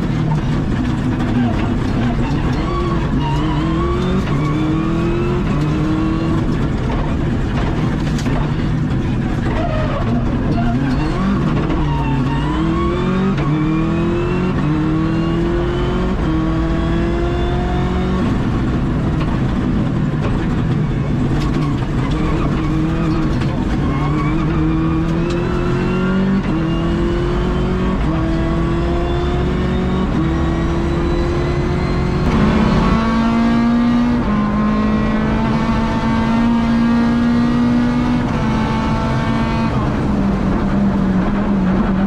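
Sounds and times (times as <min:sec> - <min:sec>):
gear shifts: 0:00.0 - 0:15.1, 0:18.2 - 0:42.0
rally car engine accelerating: 0:00.0 - 0:42.0.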